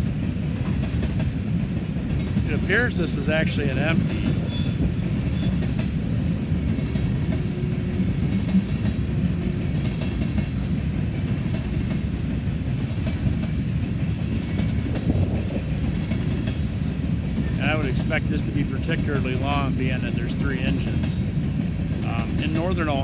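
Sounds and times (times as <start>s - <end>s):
freight train rolling past: 0.0s - 23.0s.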